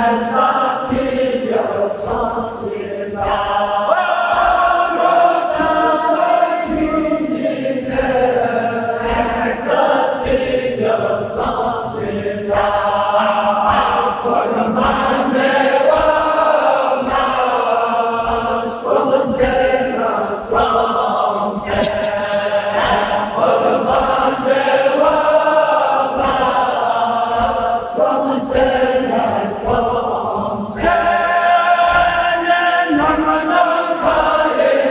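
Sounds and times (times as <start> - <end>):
man chanting into a microphone: 0.0 - 25.4, 26.1 - 34.9
men's voices chanting together: 0.0 - 34.9.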